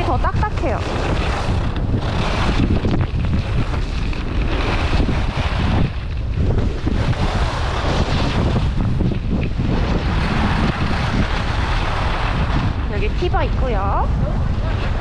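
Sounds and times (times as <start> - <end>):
skis scraping on snow: 0.0 - 15.0
wind rushing over microphone: 0.0 - 15.0.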